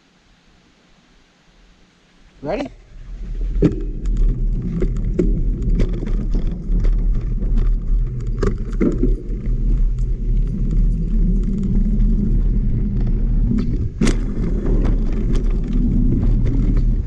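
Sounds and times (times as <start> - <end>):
bike tyres rumbling on dirt: 2.8 - 17.0
bike knocking and rattling: 3.3 - 17.0.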